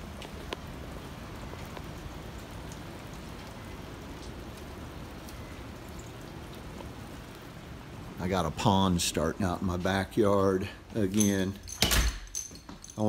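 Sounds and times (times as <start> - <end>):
steady rain: 0.0 - 13.0
water drips ticking: 0.0 - 13.0.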